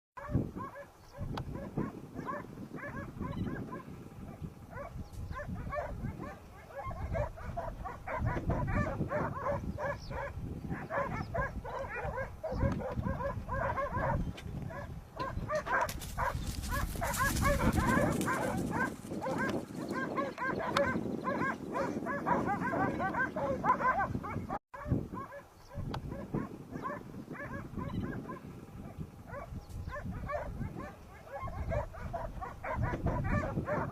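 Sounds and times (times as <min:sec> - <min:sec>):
dogs barking and yelping: 0:00.2 - 0:33.9.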